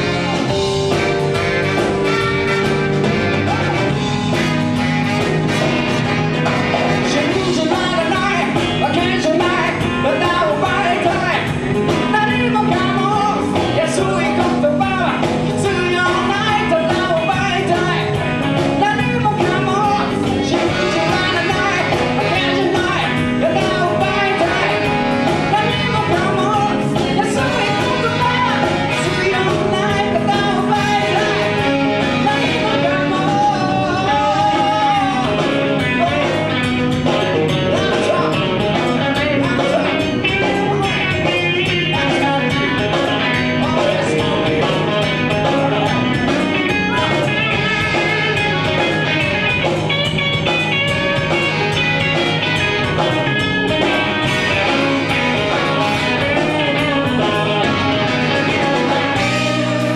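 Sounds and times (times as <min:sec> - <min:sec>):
guitar: 0:00.0 - 0:59.9
live band playing rock and roll: 0:00.0 - 0:59.9
person singing: 0:00.0 - 0:59.9.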